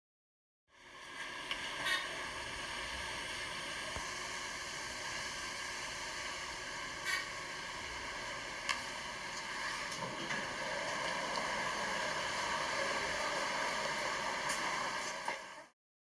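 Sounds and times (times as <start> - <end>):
elevator interior hiss and hum: 0.7 - 15.7.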